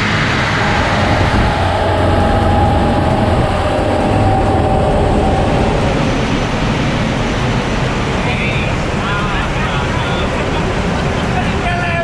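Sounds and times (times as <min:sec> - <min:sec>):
mechanical whine: 0:00.0 - 0:12.0
wheels spinning dynamometer rollers: 0:00.0 - 0:12.0.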